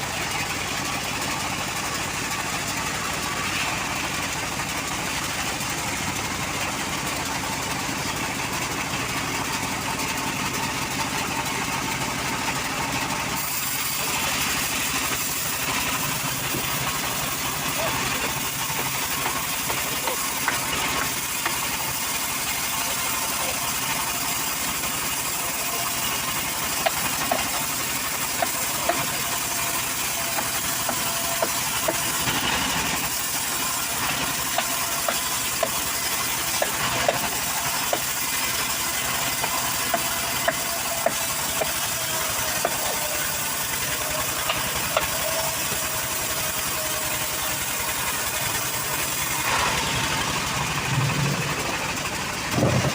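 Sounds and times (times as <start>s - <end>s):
saw engine running with hiss: 0.0s - 52.9s.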